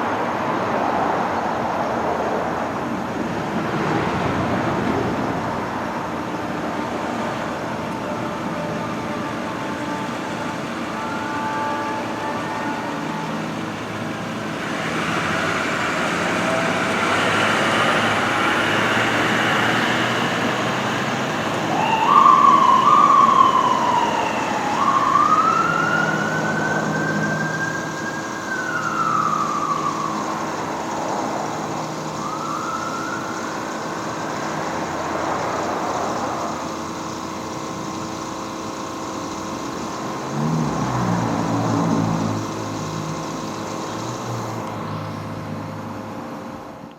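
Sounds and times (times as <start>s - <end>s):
heavy traffic noise: 0.0s - 46.9s
mechanical siren wailing: 3.6s - 45.2s.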